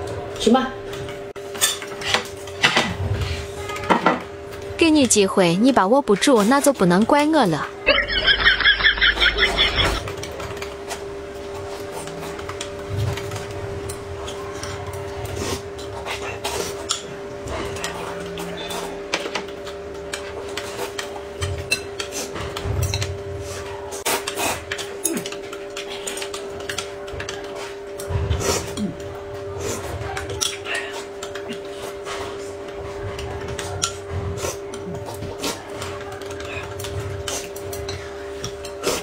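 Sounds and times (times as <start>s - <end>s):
steady low hum: 4.3s - 39.0s.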